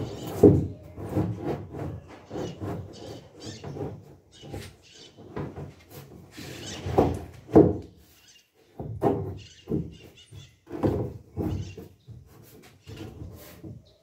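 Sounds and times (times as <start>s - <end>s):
plastic panels knocking and rubbing: 0.0s - 14.0s.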